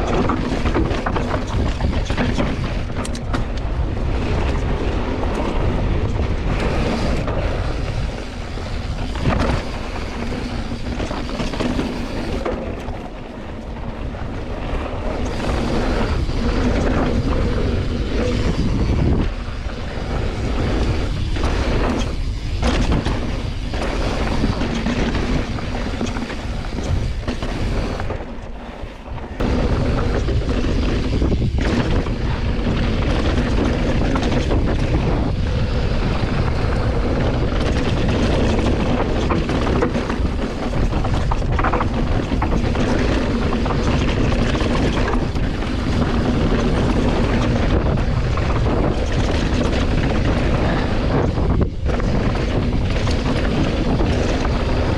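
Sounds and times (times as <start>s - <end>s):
bike tyres rumbling over rocky dirt: 0.0s - 54.9s
wind buffeting microphone: 0.0s - 54.9s.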